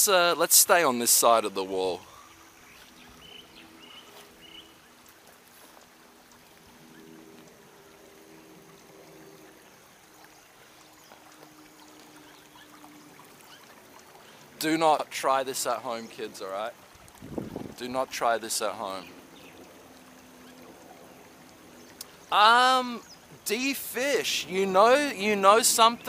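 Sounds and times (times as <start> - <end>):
water trickling in channel: 0.0 - 26.0.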